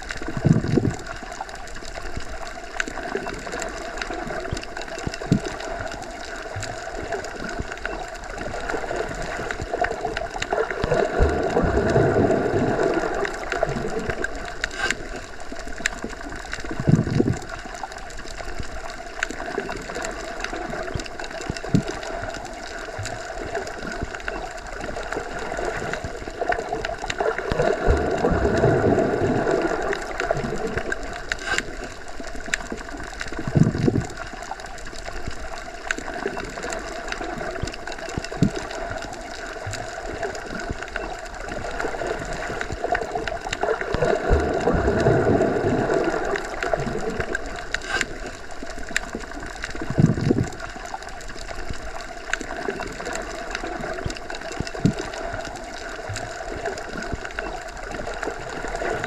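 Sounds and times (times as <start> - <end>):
muffled underwater drone: 0.0 - 59.0.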